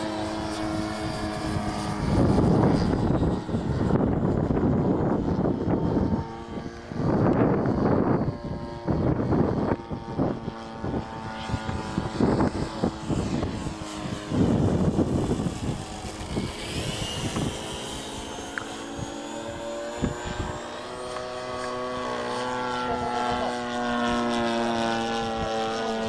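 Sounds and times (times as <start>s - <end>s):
model plane engine running: 0.0s - 26.0s
wind gusts on microphone: 0.0s - 26.0s.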